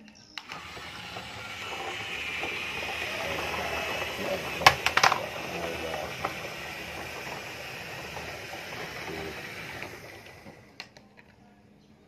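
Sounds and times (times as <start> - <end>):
toy clockwork motor whirring: 0.4 - 10.8.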